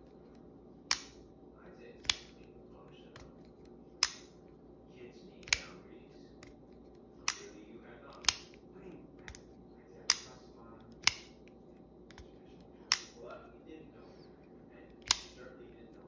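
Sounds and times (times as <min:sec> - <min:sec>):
quiet handling sounds: 0:00.0 - 0:16.0.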